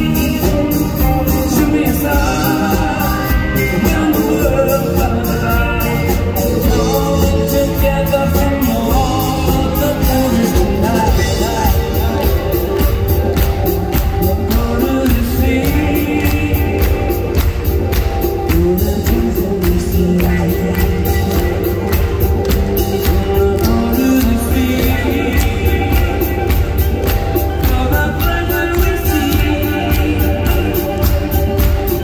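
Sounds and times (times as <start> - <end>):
keyboards: 0.0 - 32.0
lead vocal singing: 0.0 - 32.0
quick percussion beat: 0.0 - 32.0.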